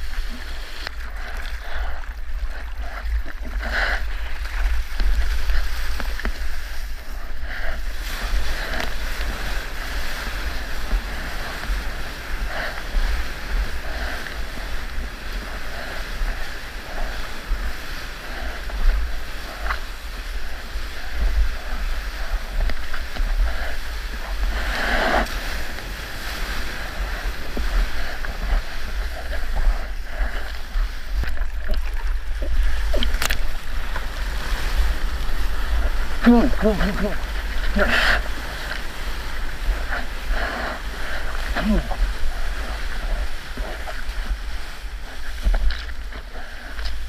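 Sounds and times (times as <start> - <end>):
whitewater hissing: 0.0 - 47.0
wind buffeting microphone: 0.0 - 47.0
water rushing past surfboard: 7.8 - 47.0.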